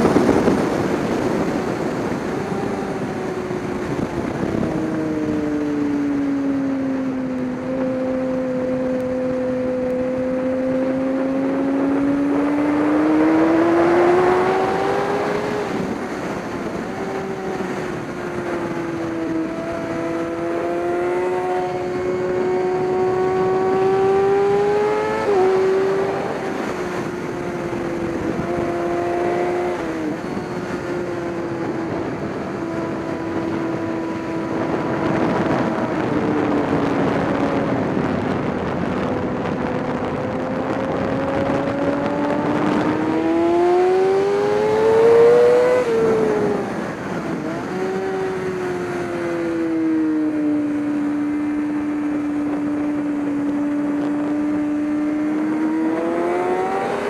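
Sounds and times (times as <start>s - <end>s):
constant rushing noise: 0.0s - 57.0s.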